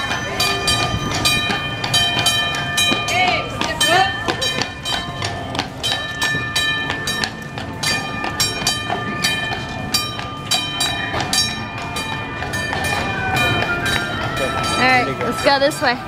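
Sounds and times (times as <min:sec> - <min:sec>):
hooves clopping: 0:00.0 - 0:16.0
steel wheels ringing on rails: 0:00.0 - 0:16.0.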